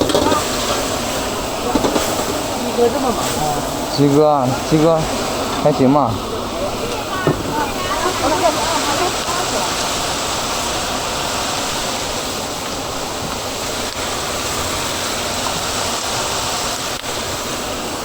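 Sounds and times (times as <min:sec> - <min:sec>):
wok cooking hiss: 0:00.0 - 0:18.0.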